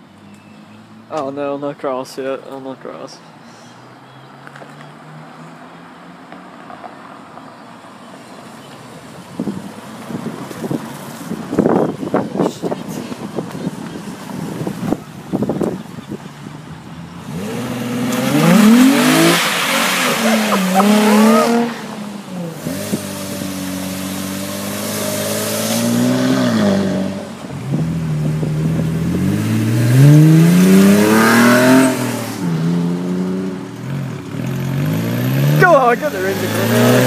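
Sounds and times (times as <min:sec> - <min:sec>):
car engines revving: 0:03.7 - 0:37.0.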